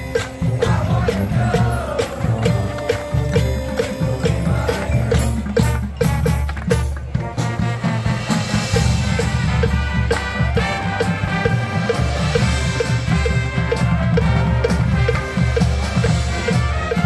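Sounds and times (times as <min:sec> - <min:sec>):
mallet percussion: 0:00.0 - 0:17.0
marching band playing: 0:00.0 - 0:17.0.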